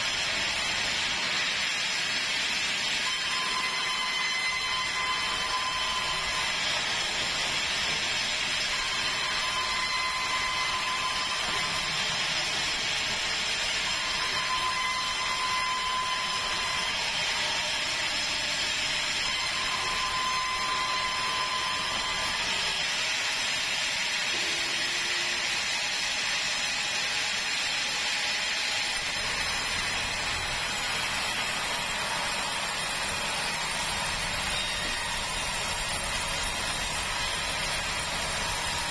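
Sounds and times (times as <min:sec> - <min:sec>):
band saw cutting log: 0:00.0 - 0:38.9
thin saw whine: 0:00.0 - 0:38.9.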